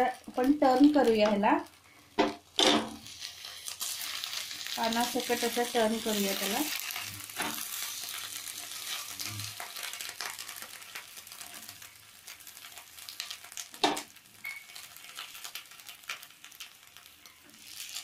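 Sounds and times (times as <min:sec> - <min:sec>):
fish parcels sizzling: 0:00.0 - 0:18.0.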